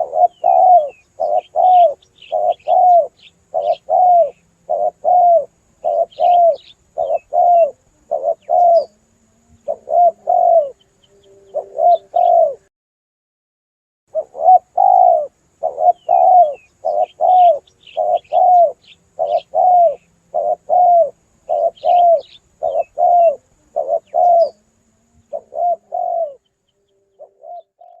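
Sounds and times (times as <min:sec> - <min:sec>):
small birds chirping: 0:00.0 - 0:12.6, 0:14.1 - 0:28.0
dove cooing: 0:00.0 - 0:12.7, 0:14.1 - 0:28.0.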